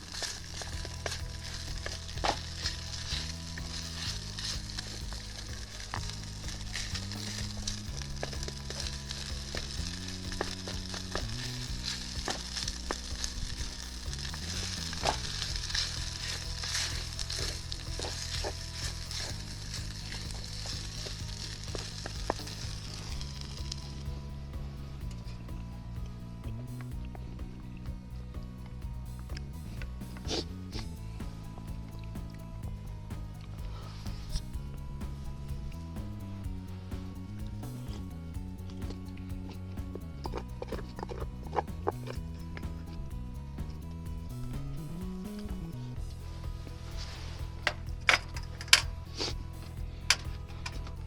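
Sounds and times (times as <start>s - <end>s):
background music with bass: 0.0s - 51.0s.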